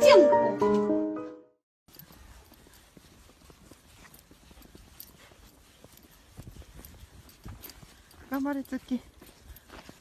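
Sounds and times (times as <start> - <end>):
footsteps crunching in snow: 1.9 - 10.0.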